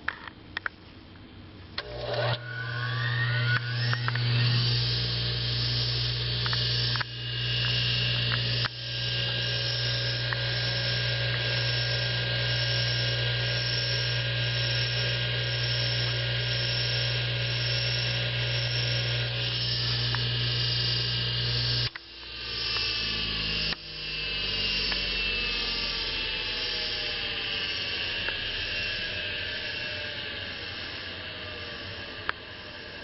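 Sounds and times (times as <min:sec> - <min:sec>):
lathe motor humming and whining: 0:01.8 - 0:33.0.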